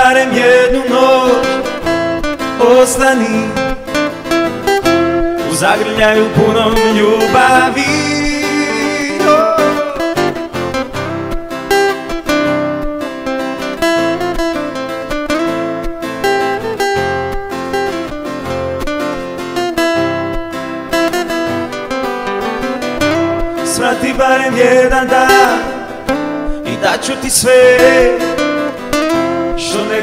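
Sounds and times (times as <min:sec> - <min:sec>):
guitar melody with sliding notes: 0:00.0 - 0:30.0
strummed acoustic guitar chords: 0:00.0 - 0:30.0.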